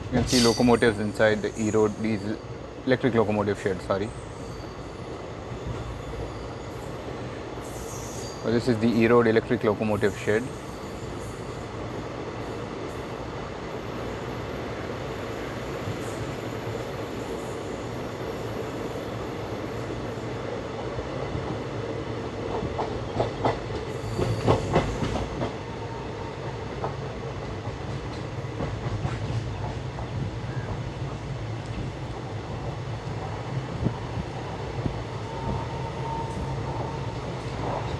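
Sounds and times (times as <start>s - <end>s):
train running: 0.0s - 37.9s.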